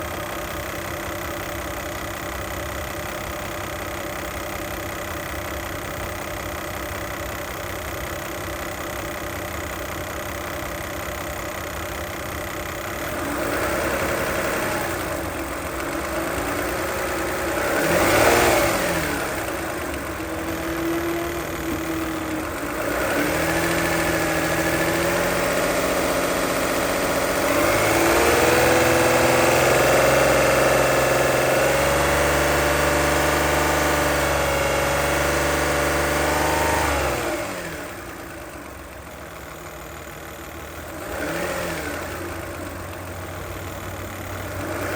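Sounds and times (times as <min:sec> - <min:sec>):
rapid engine ticking: 0:00.0 - 0:31.4, 0:37.8 - 0:44.9
car engine idling and revving: 0:00.0 - 0:44.9.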